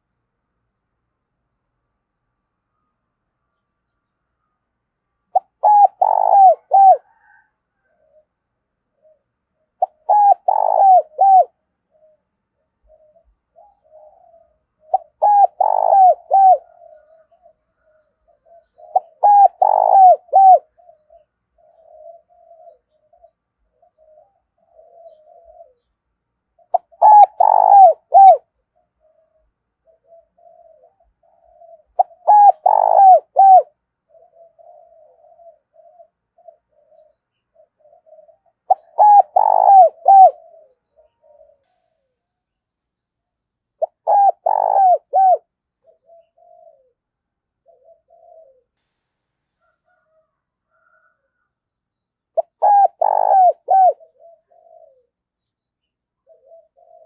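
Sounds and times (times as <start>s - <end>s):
dove cooing: 5.3s - 42.2s, 43.8s - 48.8s, 49.6s - 51.5s, 52.3s - 57.0s.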